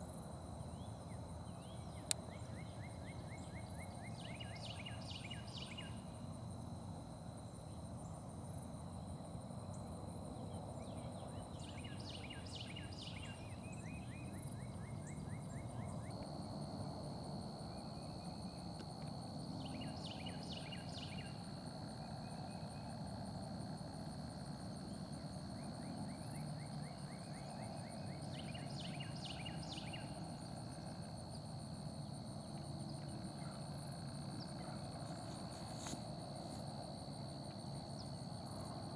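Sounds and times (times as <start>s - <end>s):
songbird singing: 0.6s - 6.4s, 9.1s - 38.7s.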